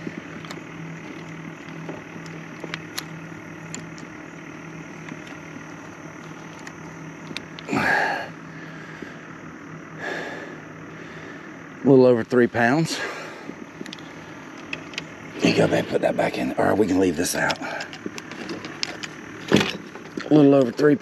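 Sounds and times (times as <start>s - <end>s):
outboard engine idling: 0.0s - 21.0s.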